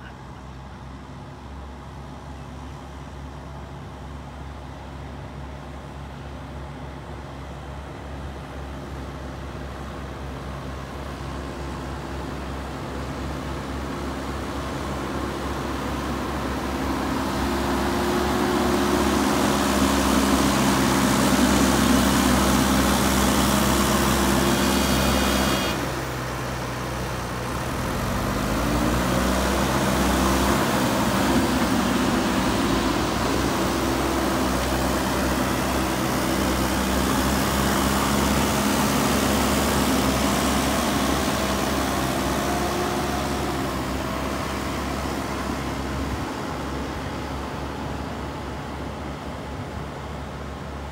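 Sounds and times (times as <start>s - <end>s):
diesel engine working under load: 0.0s - 50.9s.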